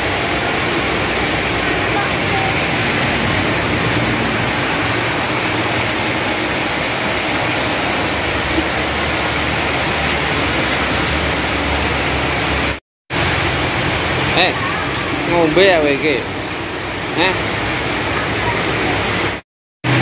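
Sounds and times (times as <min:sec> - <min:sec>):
torrential rain pouring: 0:00.0 - 0:20.0.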